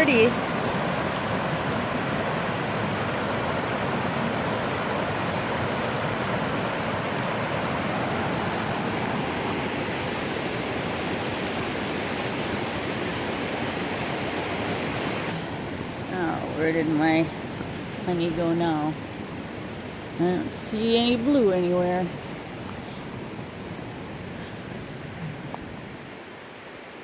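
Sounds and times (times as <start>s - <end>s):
river water rushing over rapids: 0.0s - 27.0s.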